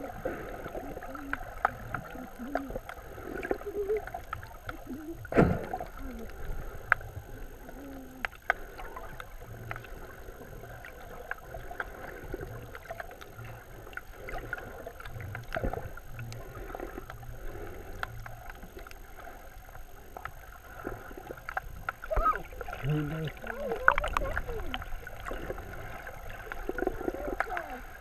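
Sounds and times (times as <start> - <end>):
small clicks and crackles: 0.0 - 28.0
underwater wash of water: 0.0 - 28.0.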